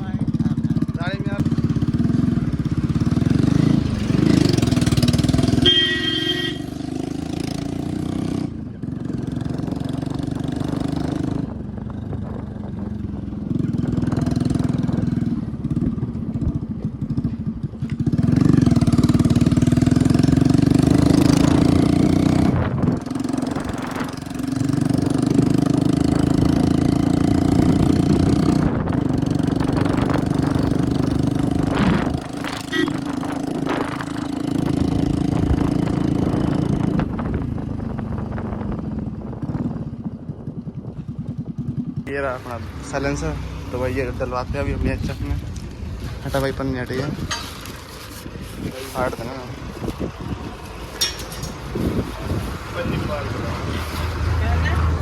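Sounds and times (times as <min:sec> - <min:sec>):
small motorcycle engine: 0:00.0 - 0:55.0.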